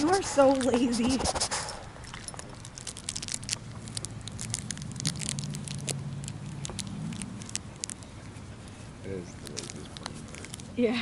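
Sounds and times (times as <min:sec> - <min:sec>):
puppy chewing a plush toy: 0:02.0 - 0:10.9
crackling and rustling in grass: 0:02.0 - 0:11.0.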